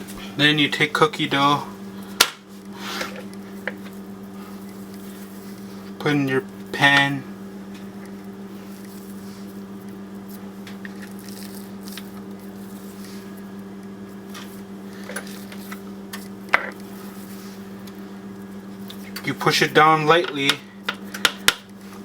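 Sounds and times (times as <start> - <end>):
steady low hum: 0.0 - 22.0
cookie dough squishing: 1.8 - 22.0.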